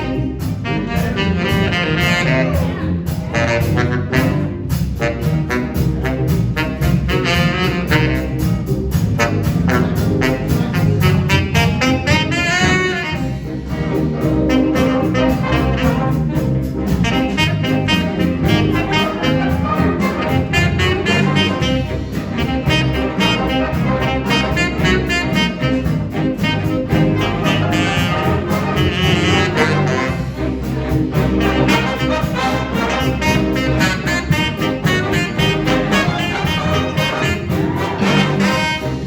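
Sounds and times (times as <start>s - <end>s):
jazz band playing: 0.0s - 39.0s.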